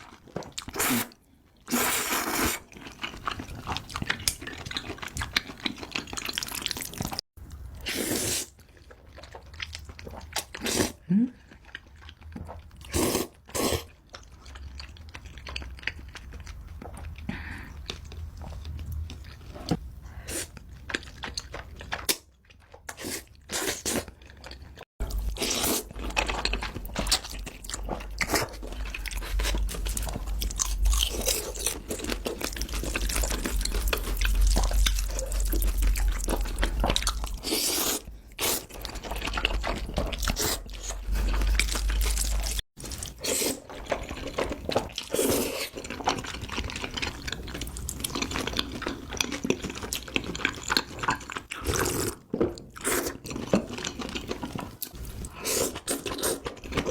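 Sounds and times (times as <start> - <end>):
wet chewing and crunching: 0.0 - 56.9.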